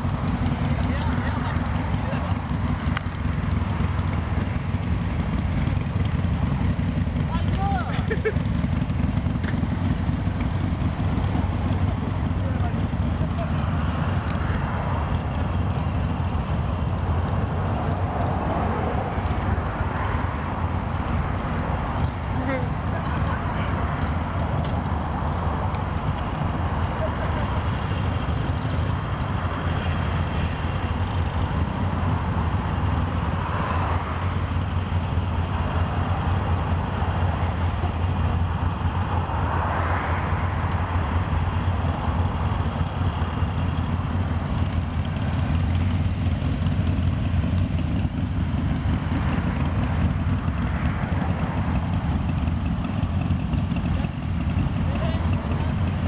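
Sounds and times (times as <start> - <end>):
motorcycle engines idling: 0.0 - 56.0
motorcycles throttling up: 0.0 - 56.0.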